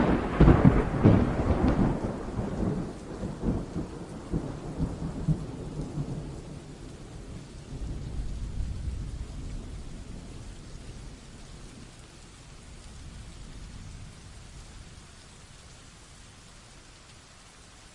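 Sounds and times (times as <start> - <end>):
thunder rumbling: 0.0 - 15.6
rain hiss: 0.0 - 17.9.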